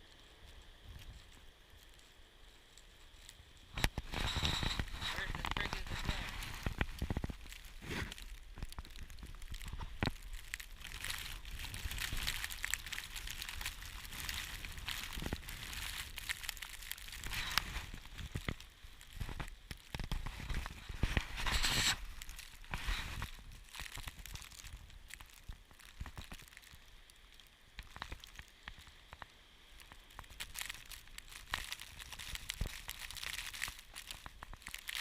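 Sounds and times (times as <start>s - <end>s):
crackling crunching hiss: 0.0s - 35.0s.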